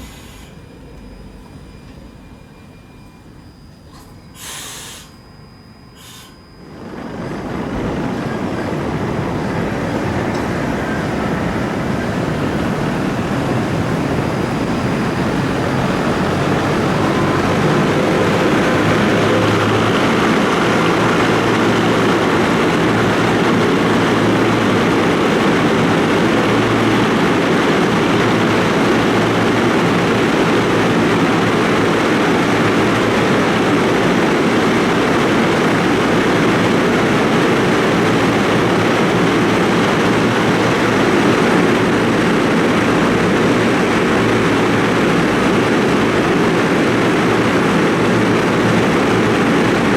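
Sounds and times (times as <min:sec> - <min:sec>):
tram rolling on rails: 0:00.0 - 0:49.9.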